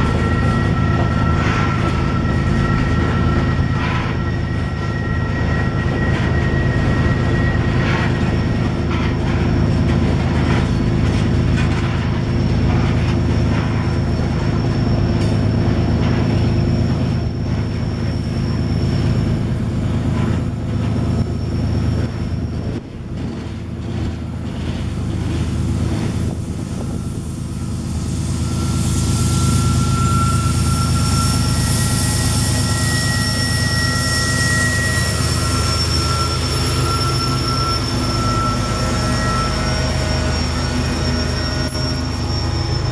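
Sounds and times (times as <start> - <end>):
freight train rumbling: 0.0 - 42.9
train wheel squeal: 0.0 - 42.9.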